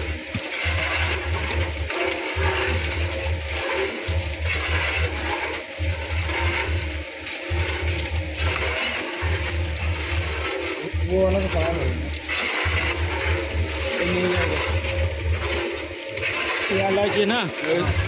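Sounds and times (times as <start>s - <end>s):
dough mixer motor humming: 0.0s - 18.0s.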